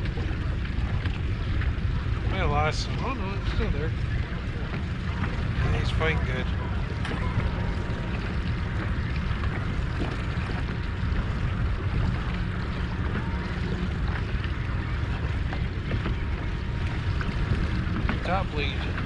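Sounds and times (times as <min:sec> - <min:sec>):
outboard motor rumbling: 0:00.0 - 0:19.0
wind on microphone: 0:00.0 - 0:19.0.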